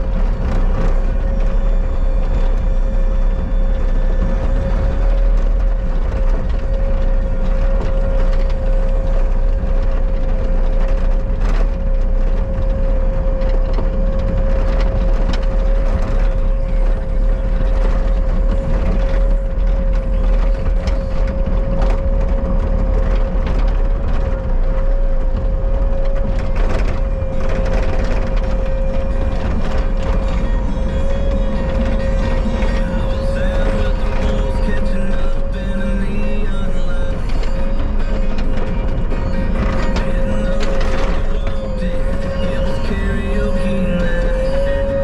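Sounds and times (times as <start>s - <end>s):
skid steer engine rumbling: 0.0s - 45.0s.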